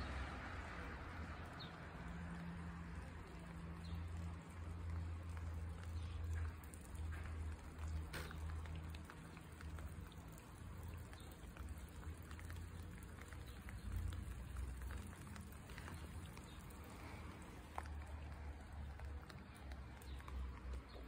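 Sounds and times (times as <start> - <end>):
water dripping on stone: 0.0 - 21.0.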